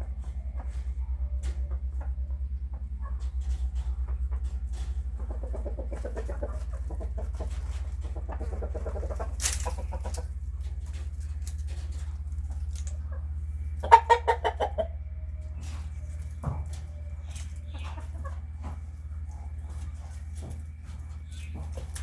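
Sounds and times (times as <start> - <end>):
chickens clucking: 0.0 - 22.0
low rumble: 0.0 - 22.0.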